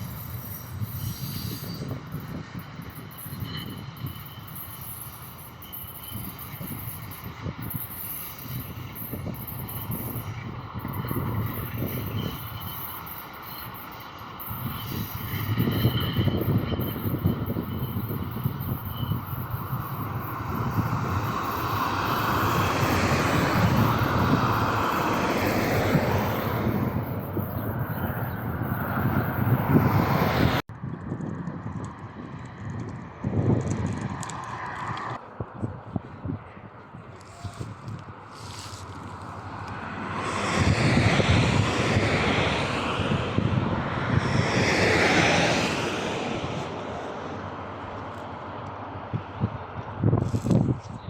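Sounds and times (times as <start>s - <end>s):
passenger train running by: 0.0s - 51.0s.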